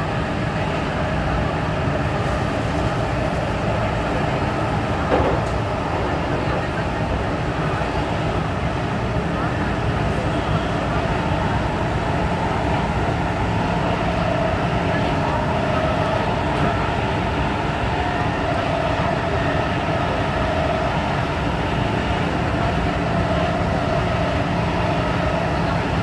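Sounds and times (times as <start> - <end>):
train wheels rumbling on rail: 0.0 - 26.0
train motor whine: 3.1 - 26.0.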